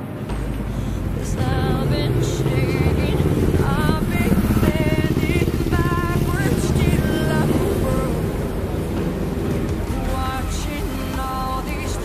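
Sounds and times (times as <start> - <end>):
motor engine running: 0.0 - 12.0
music: 0.0 - 12.0.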